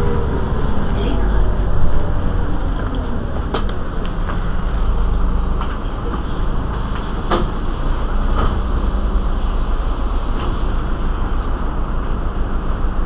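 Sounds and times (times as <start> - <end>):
bus engine idling: 0.0 - 13.0.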